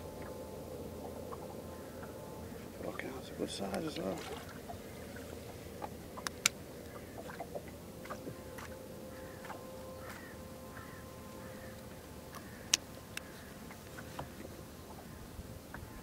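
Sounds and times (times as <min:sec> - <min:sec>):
faint steady hum: 0:00.0 - 0:16.0
faint bird calls: 0:01.0 - 0:16.0.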